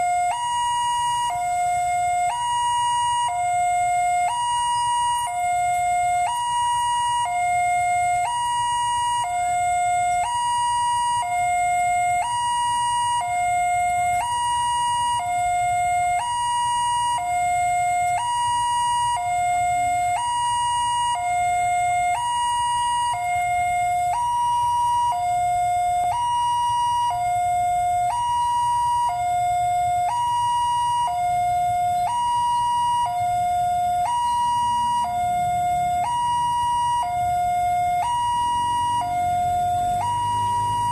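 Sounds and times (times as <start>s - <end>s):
level crossing two-tone siren: 0.0s - 40.9s.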